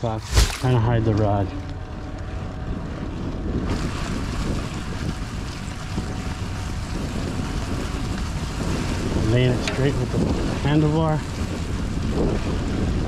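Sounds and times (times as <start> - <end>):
bike tyre noise: 0.0 - 13.0
wind buffeting microphone: 0.0 - 13.0.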